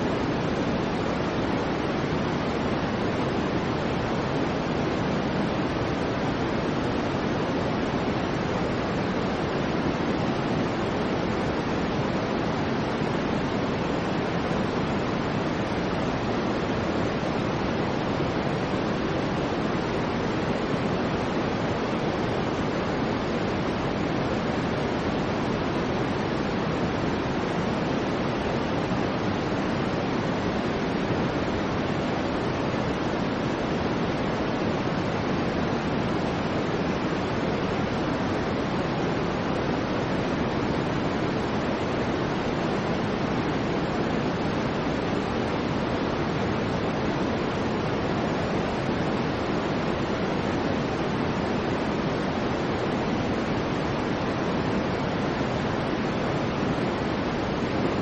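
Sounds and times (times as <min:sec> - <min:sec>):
deep white noise hiss: 0:00.0 - 0:58.0.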